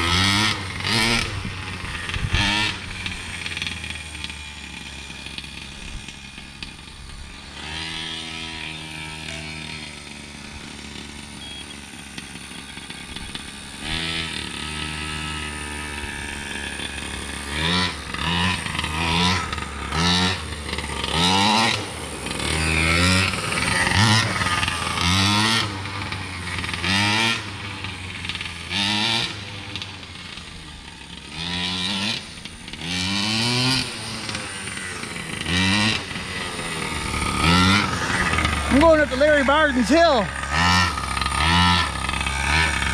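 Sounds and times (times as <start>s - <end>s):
small engine idling and revving: 0.0s - 42.9s.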